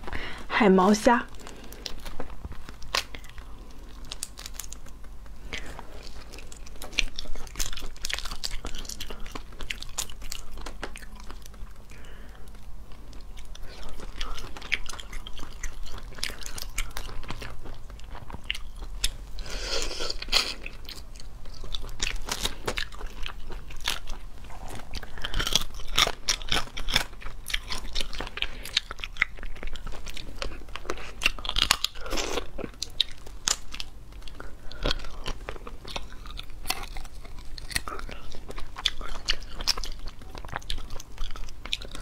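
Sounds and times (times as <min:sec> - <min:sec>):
chewing: 0:01.3 - 0:42.0
crayfish shells cracking: 0:01.4 - 0:19.2, 0:20.1 - 0:42.0.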